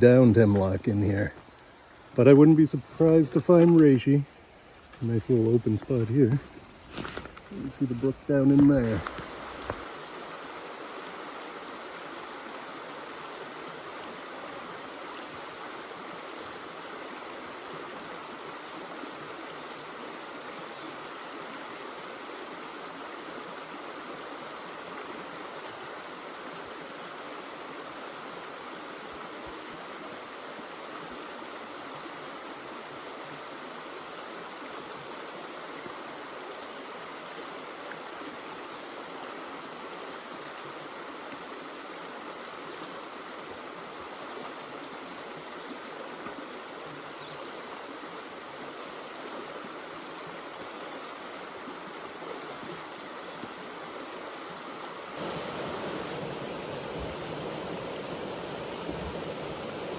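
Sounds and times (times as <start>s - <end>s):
brook water rushing: 0.0s - 59.9s.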